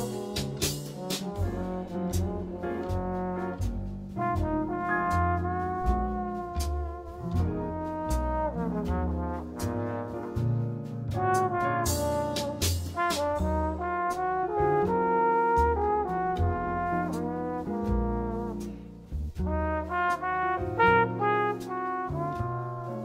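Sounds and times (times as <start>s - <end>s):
jazz music: 0.0s - 23.0s.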